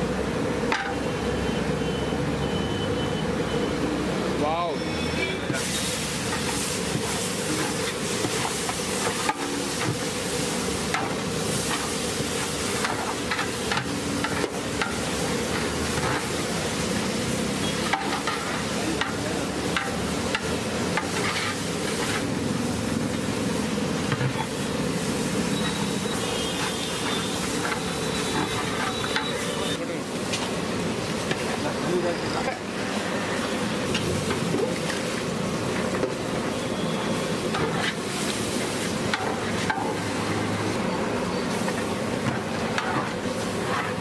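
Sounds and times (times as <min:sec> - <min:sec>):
onions sizzling in a pot: 0:03.8 - 0:44.0.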